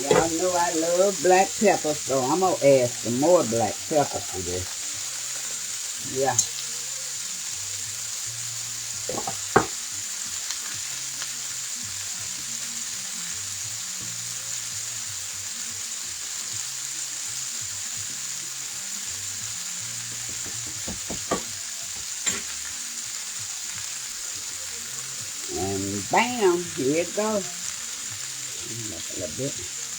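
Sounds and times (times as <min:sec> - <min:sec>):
meat sizzling in a pan: 0:00.0 - 0:29.9.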